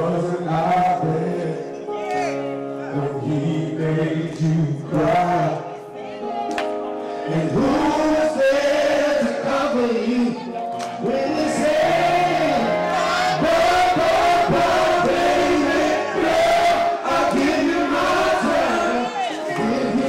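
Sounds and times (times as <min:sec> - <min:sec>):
electric keyboard: 0:00.0 - 0:20.0
men singing soul: 0:00.0 - 0:20.0.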